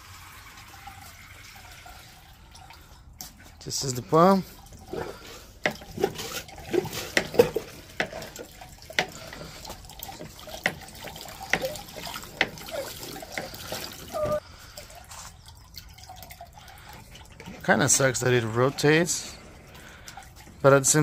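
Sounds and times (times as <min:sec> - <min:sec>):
water gushing and splashing: 0:04.0 - 0:21.0.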